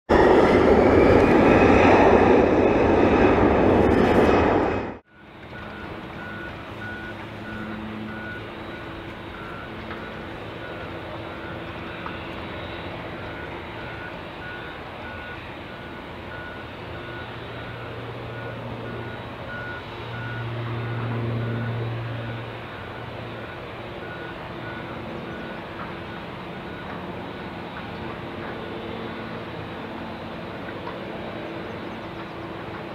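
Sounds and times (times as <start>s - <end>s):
jet engines rumbling: 0.1s - 32.9s
reversing alarm beeping: 5.1s - 32.7s.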